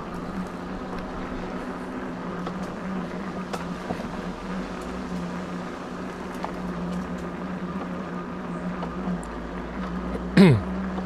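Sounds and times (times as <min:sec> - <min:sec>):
electric bike motor hum: 0:00.0 - 0:11.0.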